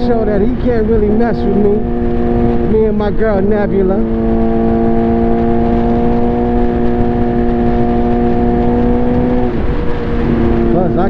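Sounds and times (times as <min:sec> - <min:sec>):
motorcycle engine at high revs: 0:00.0 - 0:11.0
wind rush on microphone: 0:00.0 - 0:11.0.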